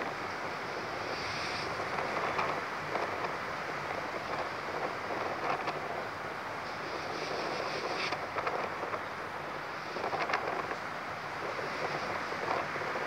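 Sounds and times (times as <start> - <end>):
storm wind blowing in gusts: 0.0 - 13.0
wind buffeting microphone: 0.0 - 13.0.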